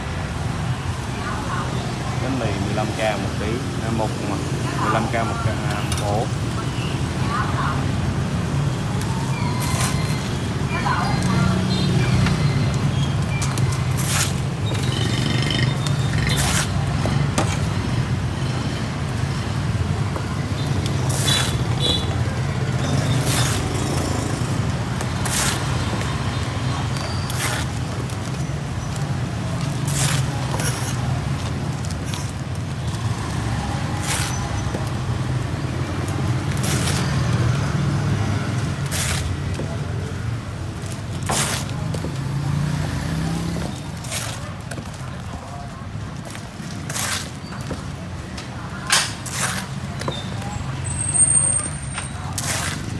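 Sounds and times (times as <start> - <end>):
street traffic hum: 0.0 - 52.9.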